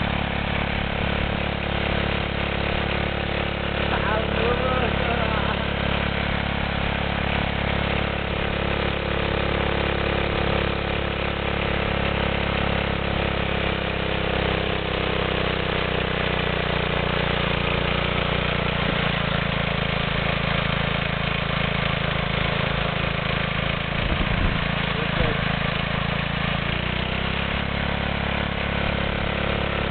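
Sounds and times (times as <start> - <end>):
lawnmower engine at full throttle: 0.0 - 29.9.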